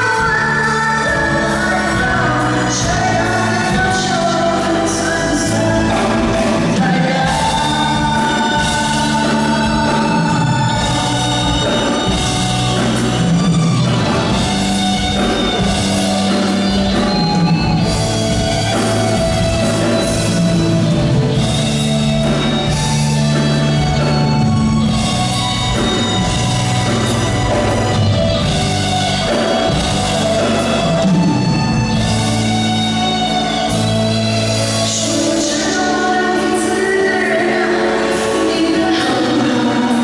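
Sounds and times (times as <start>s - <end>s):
live band playing pop-rock: 0.0s - 40.0s.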